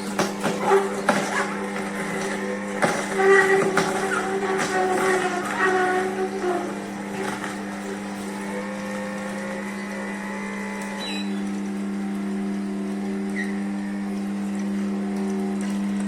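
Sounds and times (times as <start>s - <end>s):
juicer motor humming: 0.0s - 16.0s.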